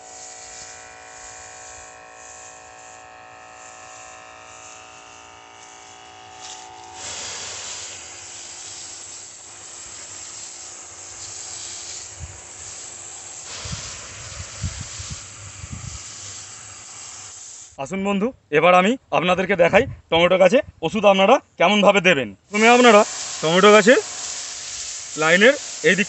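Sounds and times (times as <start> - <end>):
pump motor humming: 0.0 - 17.8, 22.5 - 26.0
spray gun hissing: 0.0 - 17.8, 22.5 - 26.0.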